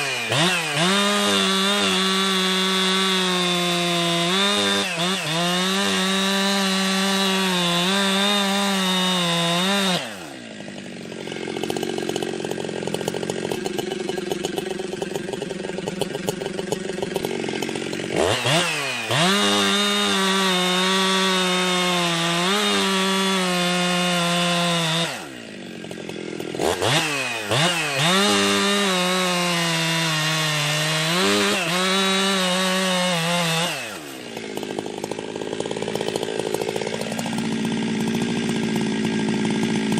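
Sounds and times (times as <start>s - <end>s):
chainsaw cutting wood and revving: 0.0s - 39.9s.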